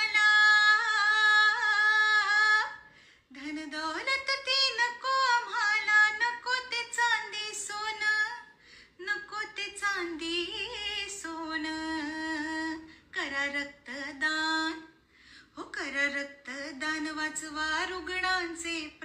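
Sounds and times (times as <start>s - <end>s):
woman singing: 0.0s - 14.9s, 15.6s - 19.0s.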